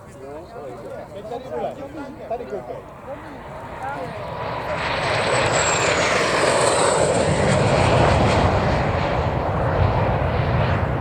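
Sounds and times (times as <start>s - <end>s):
jet flying past: 1.6s - 11.0s.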